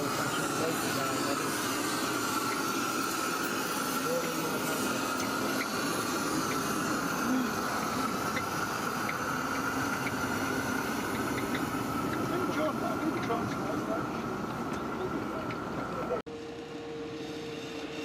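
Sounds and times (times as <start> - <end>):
high whine: 0.0 - 18.0
miniature train rushing: 0.0 - 18.0.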